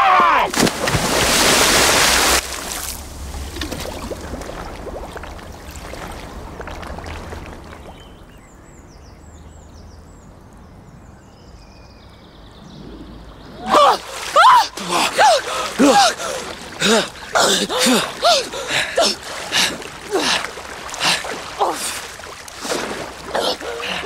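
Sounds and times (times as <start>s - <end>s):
rushing water: 0.0s - 8.8s, 12.8s - 24.0s
water trickling and gurgling: 1.1s - 9.4s, 12.1s - 24.0s.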